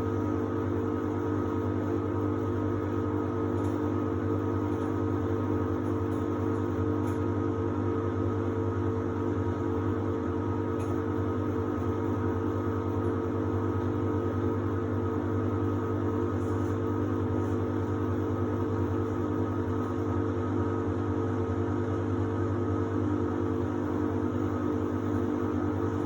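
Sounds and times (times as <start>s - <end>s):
washer-dryer humming: 0.0s - 26.0s.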